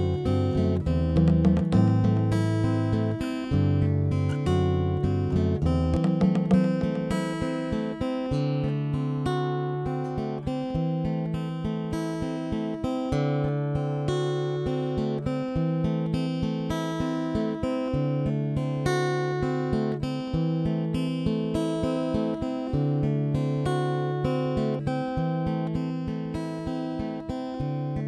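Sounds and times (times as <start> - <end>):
plucked acoustic guitar: 0.0 - 28.0.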